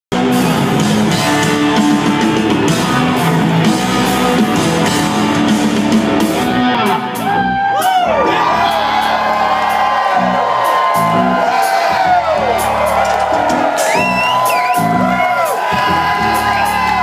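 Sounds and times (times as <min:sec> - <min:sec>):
rock band playing loud: 0:00.1 - 0:17.0.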